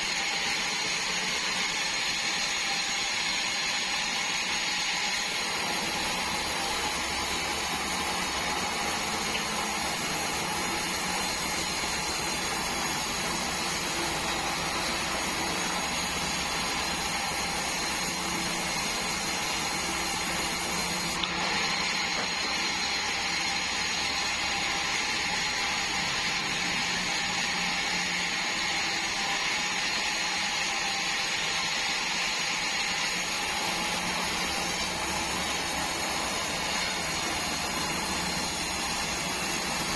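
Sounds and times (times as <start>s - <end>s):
band sawmill whining: 0.0s - 39.9s.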